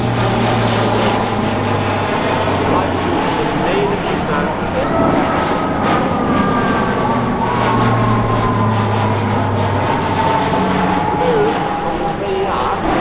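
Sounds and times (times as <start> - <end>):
turboprop plane flying overhead: 0.0 - 13.0.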